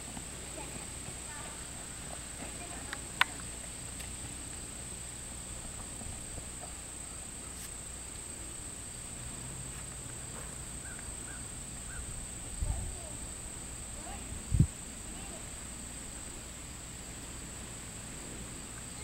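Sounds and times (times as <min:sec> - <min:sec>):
crickets droning: 0:00.0 - 0:19.0
faint outdoor background noise: 0:00.0 - 0:19.0.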